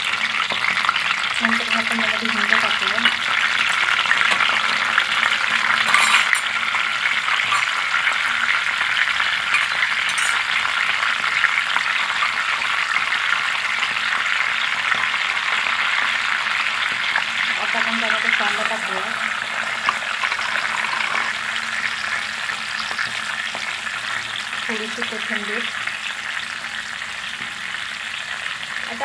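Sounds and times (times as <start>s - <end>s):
spices sizzling in hot oil: 0.0s - 29.0s.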